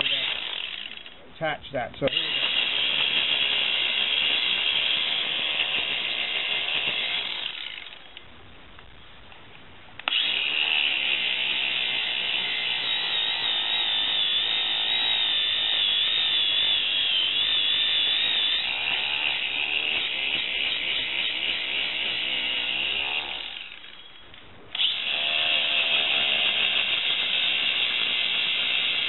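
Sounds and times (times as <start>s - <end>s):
angle grinder whining: 0.0s - 1.2s, 2.0s - 8.2s, 10.0s - 29.0s.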